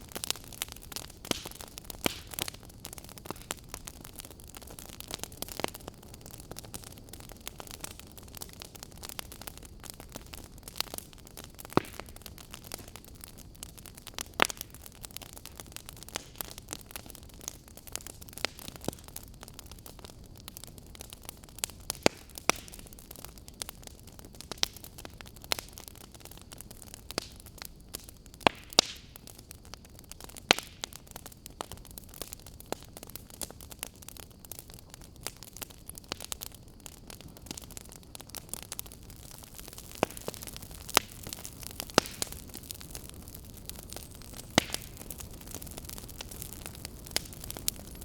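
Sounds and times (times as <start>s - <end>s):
fire crackling: 0.0s - 48.0s.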